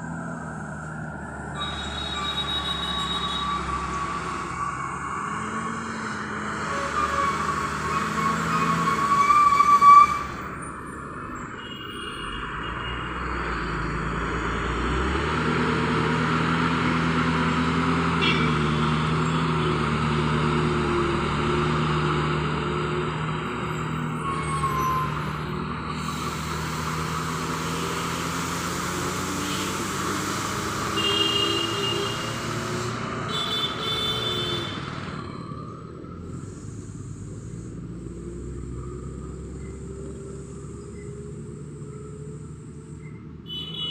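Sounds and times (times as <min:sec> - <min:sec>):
lorry diesel engine running: 0:00.0 - 0:43.9.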